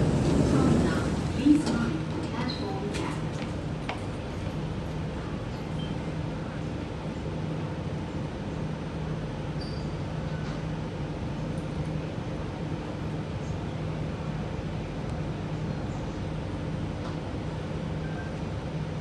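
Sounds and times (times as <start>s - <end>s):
stationary train humming: 0.0s - 19.0s.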